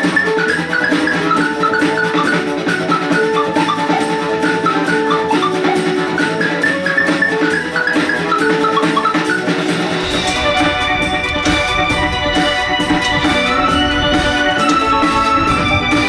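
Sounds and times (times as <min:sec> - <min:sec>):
upbeat background music: 0:00.0 - 0:16.0.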